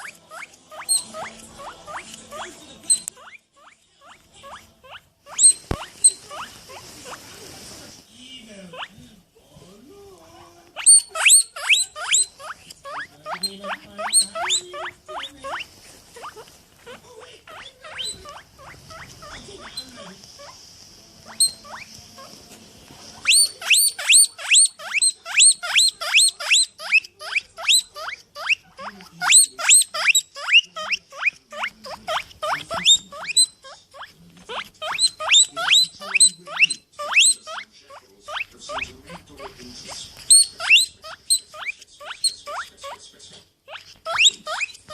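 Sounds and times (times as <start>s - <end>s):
small animal squeaking: 0.0s - 7.3s, 8.7s - 9.0s, 10.3s - 22.4s, 23.0s - 43.0s, 43.6s - 44.9s.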